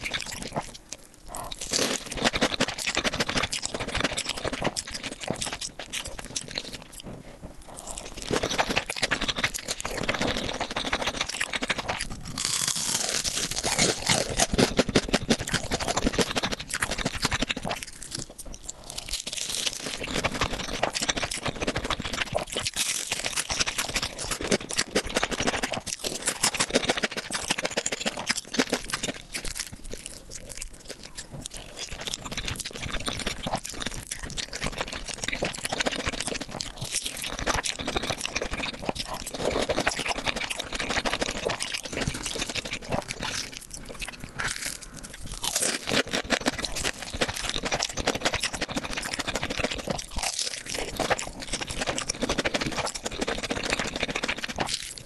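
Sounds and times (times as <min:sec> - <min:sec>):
crunchy bites and chewing: 0:00.0 - 0:55.0.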